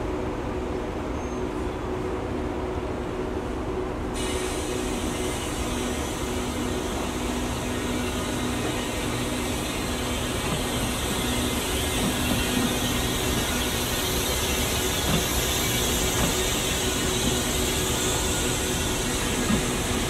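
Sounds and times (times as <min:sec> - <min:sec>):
steady mechanical hum: 0:00.0 - 0:20.0
train coaches rumbling over tracks: 0:00.0 - 0:20.0.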